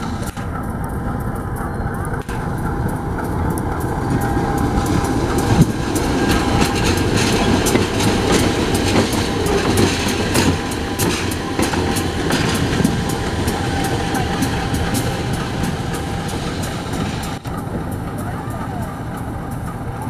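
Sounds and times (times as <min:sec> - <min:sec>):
diesel engine rumble: 0:00.0 - 0:20.0
wheels clicking over rail joints: 0:00.0 - 0:20.0.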